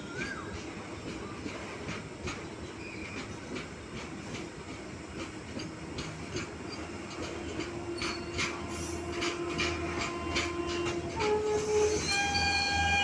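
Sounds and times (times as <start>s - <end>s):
train wheels rumbling on rail: 0.0s - 13.0s
wheels clacking over rail joints: 0.1s - 13.0s.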